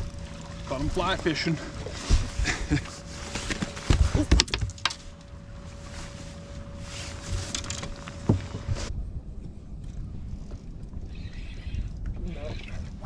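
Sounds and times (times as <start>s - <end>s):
thin steady whine: 0.0s - 13.0s.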